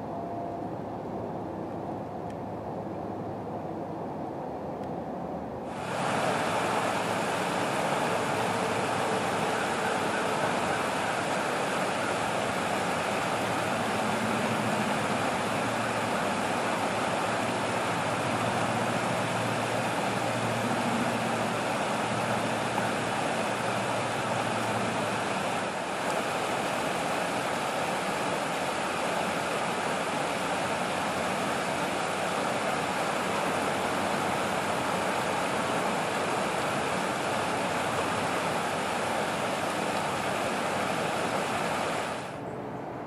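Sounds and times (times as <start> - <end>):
stream water flowing: 5.5 - 42.5.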